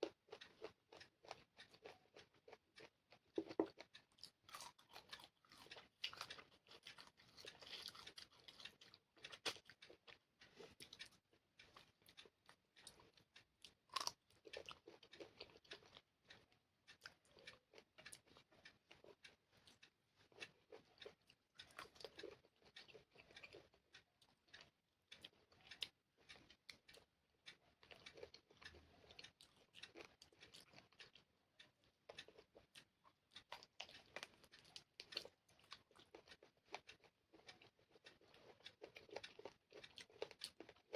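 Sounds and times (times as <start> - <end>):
chewing and mouth clicks: 0.0 - 40.9.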